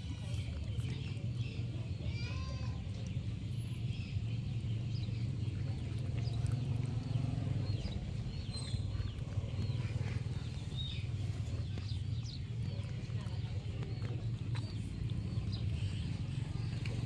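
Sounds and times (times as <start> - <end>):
small birds chirping: 0.0 - 17.0
steady low rumble: 3.2 - 17.0.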